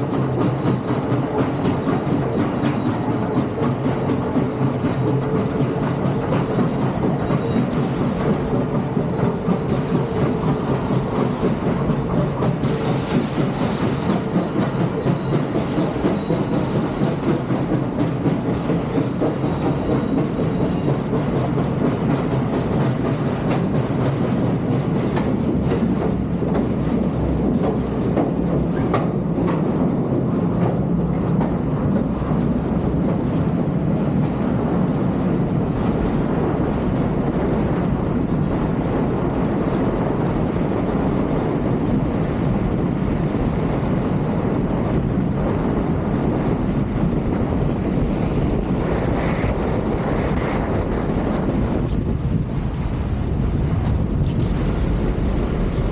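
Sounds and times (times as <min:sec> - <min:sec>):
train rumbling on rails: 0:00.0 - 0:55.9
wheels clickety-clack: 0:00.0 - 0:55.9.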